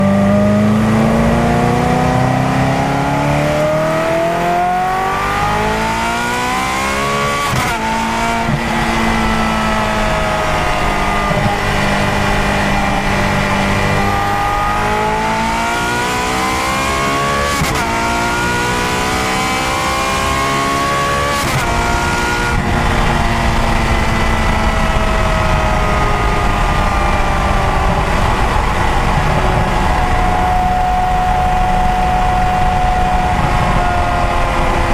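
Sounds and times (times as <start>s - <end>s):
sports car engine accelerating: 0.0s - 34.9s.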